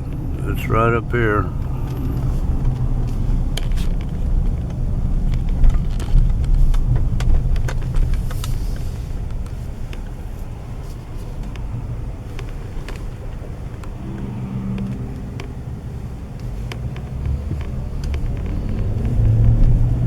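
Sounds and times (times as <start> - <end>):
car engine and road rumble: 0.0 - 20.0
light clicks and knocks: 1.5 - 20.0.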